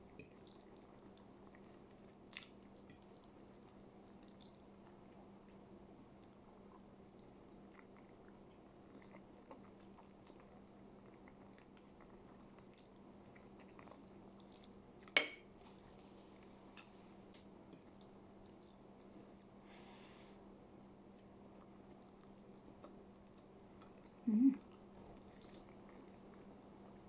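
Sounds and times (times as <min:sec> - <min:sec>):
chewing pasta: 0:00.0 - 0:19.6, 0:20.8 - 0:27.0.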